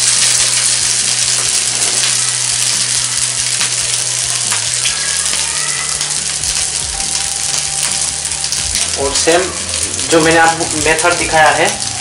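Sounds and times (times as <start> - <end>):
patty sizzling in oil: 0.0 - 12.0.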